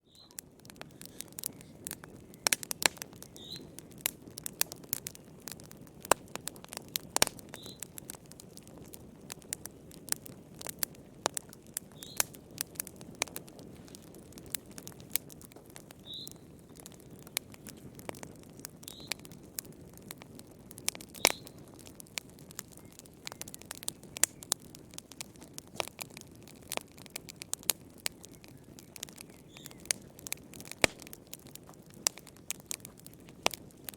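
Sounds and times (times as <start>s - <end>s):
low rumble of flames: 0.0s - 33.9s
wood fire crackling and popping: 0.0s - 33.9s
high-pitched squeal from burning wood: 0.1s - 33.9s.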